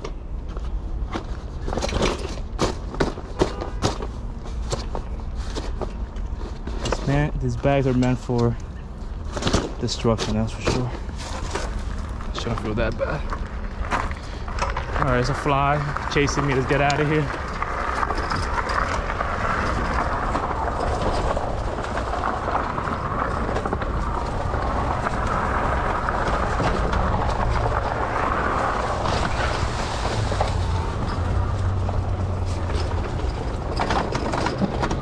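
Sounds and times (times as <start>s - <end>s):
electric bike rolling: 0.0s - 35.0s.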